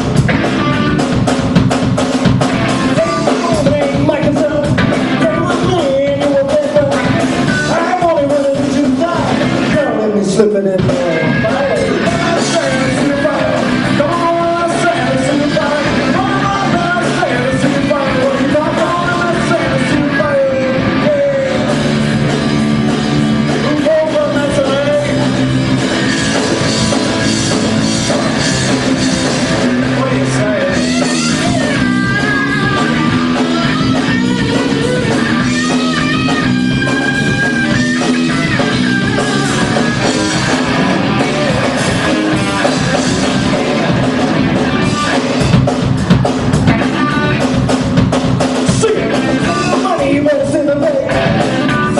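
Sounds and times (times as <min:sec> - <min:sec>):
guitar: 0:00.0 - 0:51.9
rock music: 0:00.0 - 0:51.9
person singing: 0:02.8 - 0:22.0, 0:23.3 - 0:25.4, 0:29.6 - 0:45.8, 0:46.6 - 0:47.6, 0:48.7 - 0:51.9.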